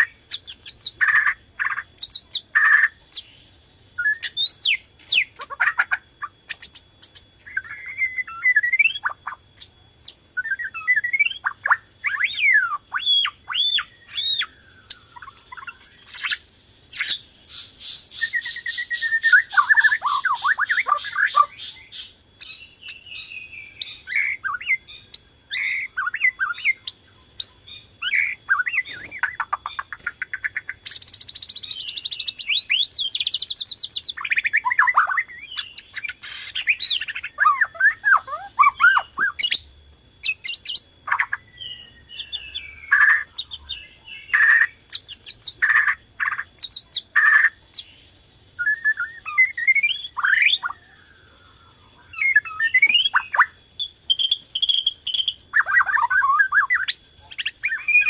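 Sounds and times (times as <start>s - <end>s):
bird singing whistled song: 0.0s - 58.0s.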